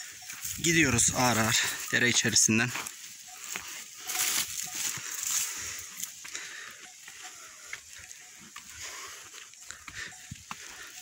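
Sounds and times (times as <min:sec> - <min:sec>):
hooves crunching on stones: 0:00.0 - 0:11.0.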